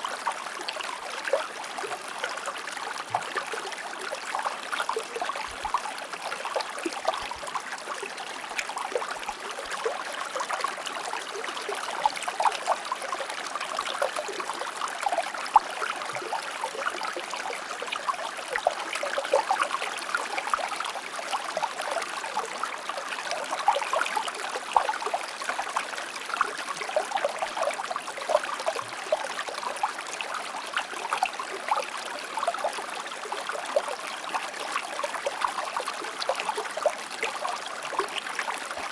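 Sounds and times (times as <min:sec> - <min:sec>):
stream trickling over rocks: 0:00.0 - 0:38.9.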